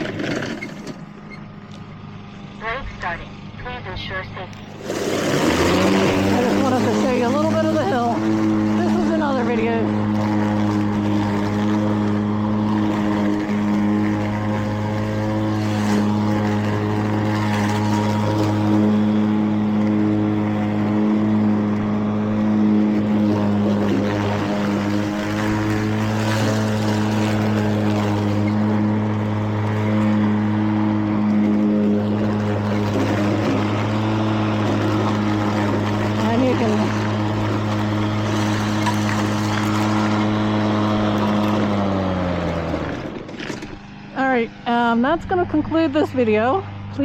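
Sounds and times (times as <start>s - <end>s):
lawn mower humming: 0.0s - 47.0s.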